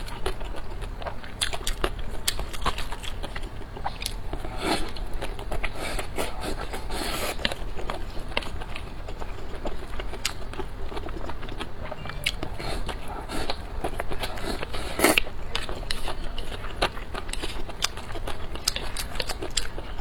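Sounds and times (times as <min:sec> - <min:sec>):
chewing and biting: 0:00.0 - 0:20.0.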